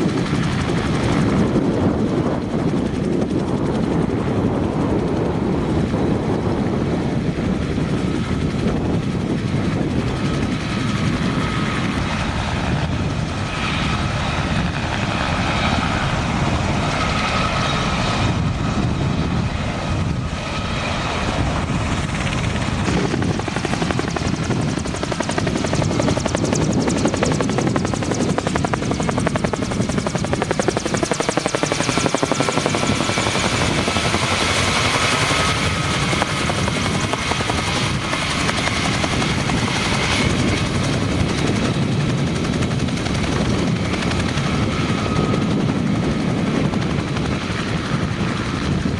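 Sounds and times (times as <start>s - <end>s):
helicopter rotor chopping: 0.0s - 48.9s.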